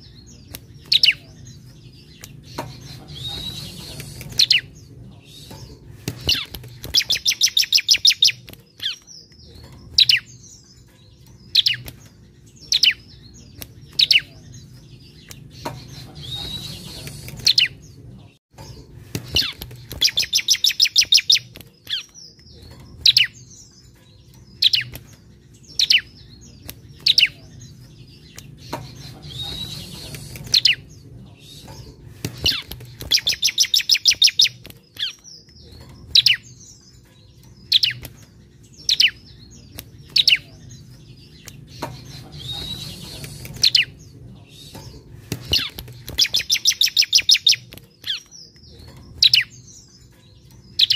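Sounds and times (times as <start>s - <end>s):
bird trilling and singing: 0.0s - 50.9s.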